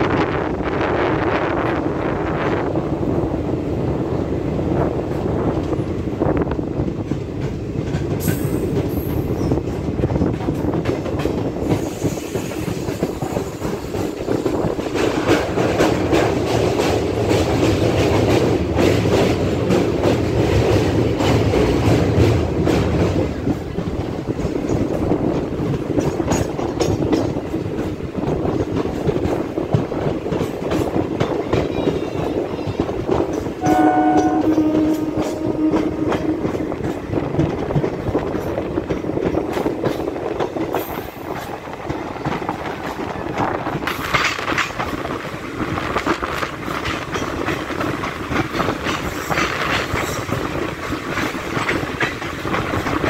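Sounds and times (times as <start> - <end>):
train wheels clacking over rail joints: 5.0 - 53.0.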